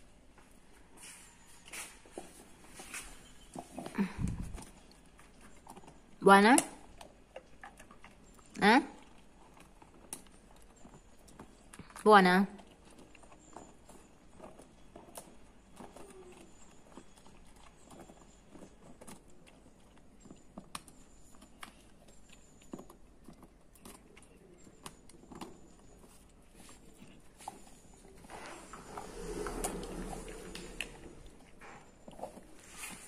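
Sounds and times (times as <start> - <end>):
dog chewing hard bread: 2.1 - 6.2, 6.8 - 33.0.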